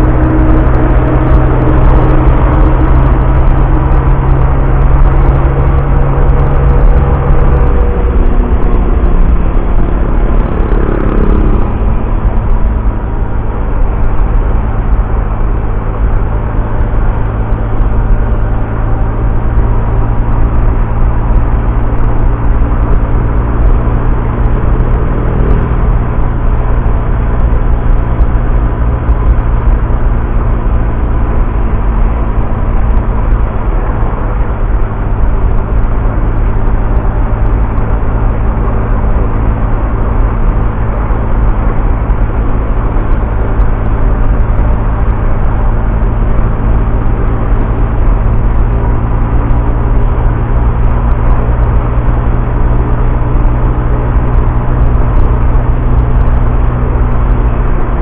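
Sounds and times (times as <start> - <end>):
scooter engine cruising: 0.0 - 55.9
wind rumble on microphone: 0.0 - 58.0.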